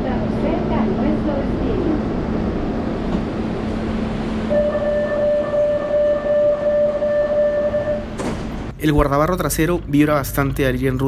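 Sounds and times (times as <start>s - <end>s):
train ride rumble: 0.0s - 11.0s.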